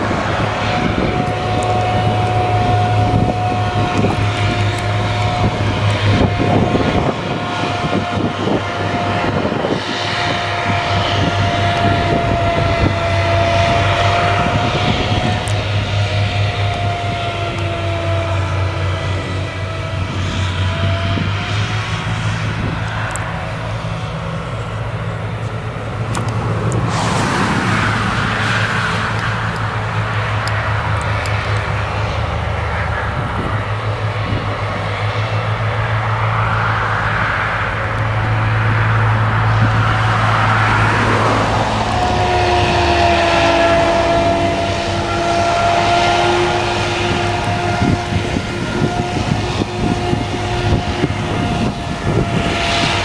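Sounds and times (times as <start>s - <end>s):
low engine drone: 0.0s - 53.0s
rushing noise: 0.0s - 53.0s
steady whine: 0.0s - 53.0s.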